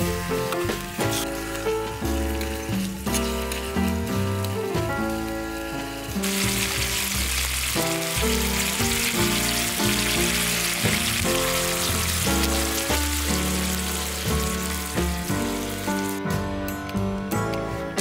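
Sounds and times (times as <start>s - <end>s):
meat sizzling in a pan: 0.0s - 16.2s
instrumental background music: 0.0s - 18.0s.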